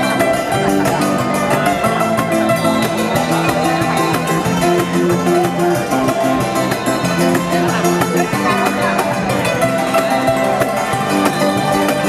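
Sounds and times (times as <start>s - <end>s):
instrumental band with hammered dulcimers: 0.0s - 12.0s.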